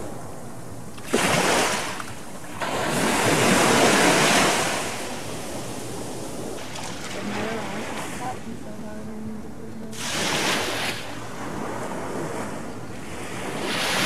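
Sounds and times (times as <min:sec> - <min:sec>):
small waves washing on sand: 0:00.0 - 0:14.0.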